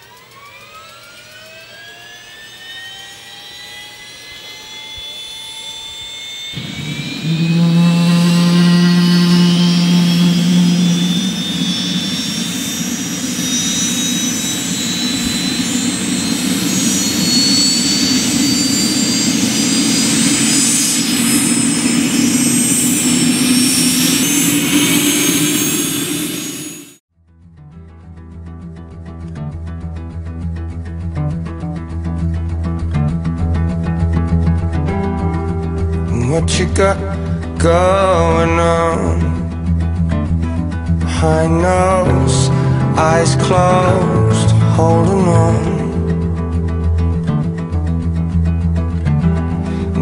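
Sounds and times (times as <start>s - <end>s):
helicopter engine whine rising: 0.0s - 27.0s, 30.2s - 50.0s
rotor rush and low hum: 3.5s - 27.0s, 29.5s - 50.0s.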